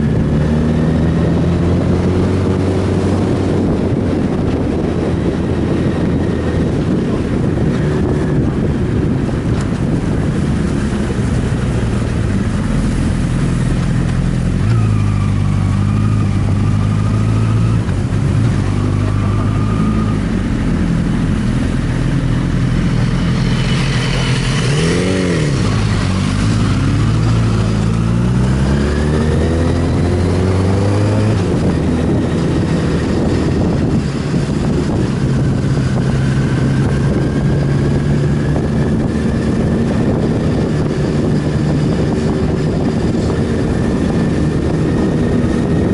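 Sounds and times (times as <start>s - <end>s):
motorcycle engine revving: 0.0s - 45.9s
wind noise: 0.0s - 45.9s.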